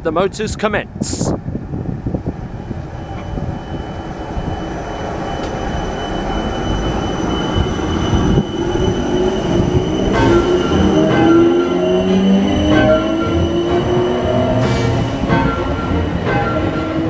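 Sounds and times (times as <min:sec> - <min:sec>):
electric train motors whining: 0:02.4 - 0:17.0.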